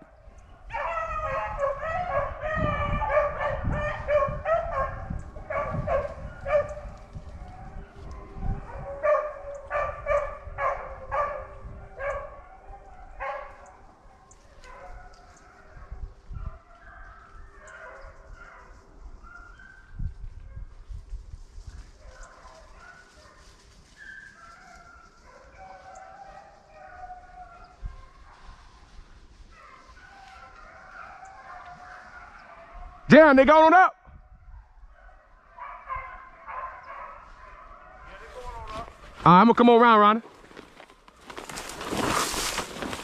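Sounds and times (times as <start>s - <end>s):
hounds baying: 0.0s - 20.0s, 21.8s - 33.3s, 34.8s - 39.2s.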